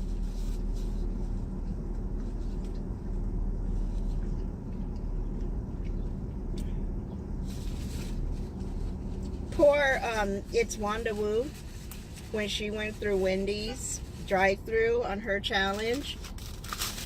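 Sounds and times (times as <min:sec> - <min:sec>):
air conditioning: 0:00.0 - 0:17.0
car engine rumble: 0:00.0 - 0:17.0.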